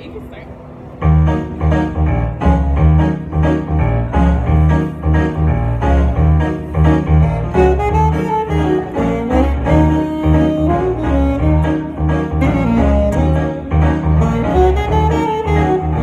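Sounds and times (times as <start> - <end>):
keyboard melody: 0.0 - 16.0
keyboard bass line: 0.9 - 16.0.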